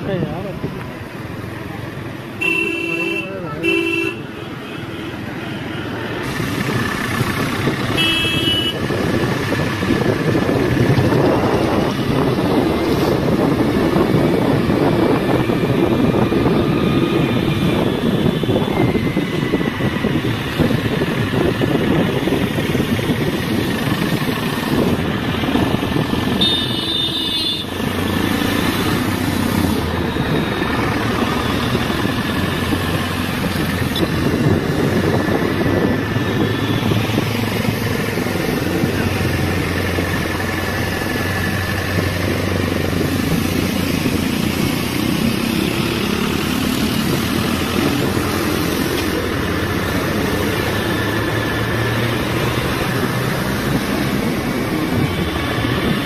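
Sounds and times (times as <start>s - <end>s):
scooter engine: 5.1s - 56.0s
wind noise on microphone: 6.2s - 56.0s.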